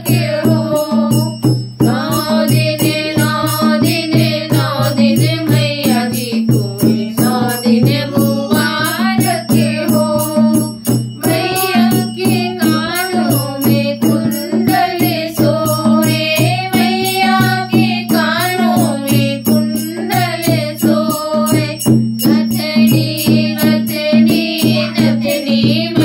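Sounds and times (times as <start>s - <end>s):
hand drum beat: 0.0s - 26.0s
woman singing devotional song: 0.0s - 26.0s.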